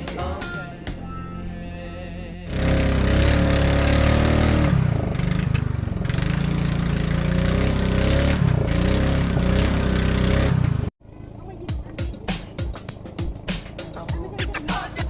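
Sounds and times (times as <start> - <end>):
motorboat engine running: 2.5 - 15.0.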